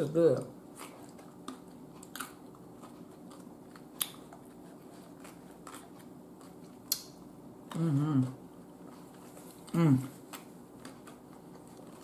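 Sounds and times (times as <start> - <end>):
faint steady hum: 0.0 - 12.0
person chewing crisp cucumber: 0.3 - 12.0.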